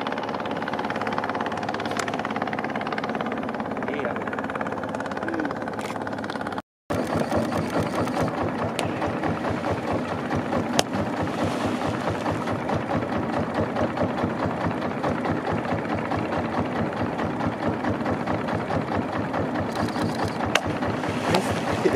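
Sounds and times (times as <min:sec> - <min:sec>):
boat engine rattling: 0:00.0 - 0:21.9.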